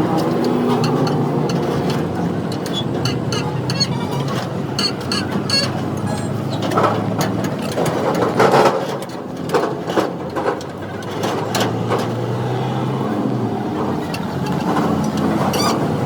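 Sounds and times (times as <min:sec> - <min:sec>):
knocks and clanks: 0:00.0 - 0:12.3, 0:13.7 - 0:16.0
truck engine running: 0:00.0 - 0:16.0.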